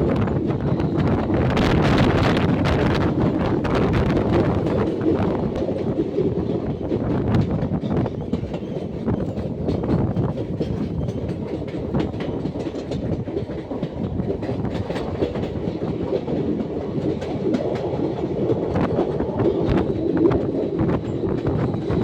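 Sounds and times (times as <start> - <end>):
train rumbling on track: 0.0 - 22.0
wheels clicking and clattering: 0.1 - 22.0.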